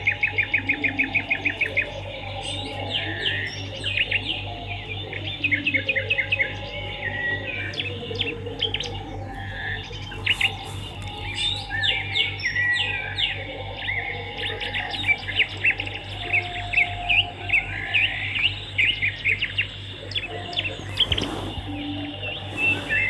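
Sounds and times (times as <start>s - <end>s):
birds chirping in rapid twitters: 0.0s - 23.0s
steady low hum: 0.0s - 23.0s.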